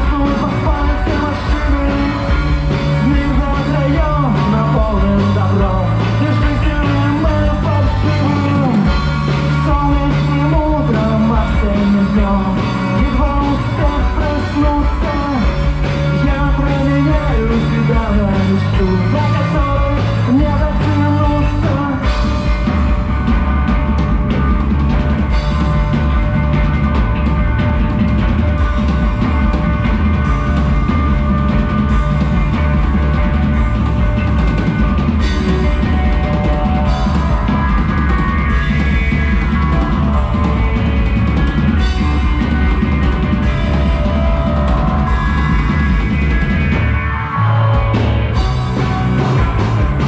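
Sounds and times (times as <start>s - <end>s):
drum kit: 0.0s - 50.0s
rock band playing instrumental: 0.0s - 50.0s.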